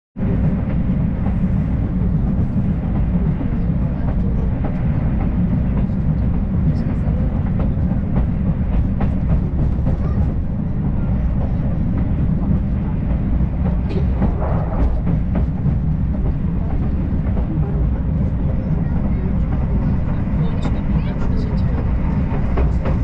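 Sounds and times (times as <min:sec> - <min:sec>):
train running noise low rumble: 0:00.2 - 0:23.0.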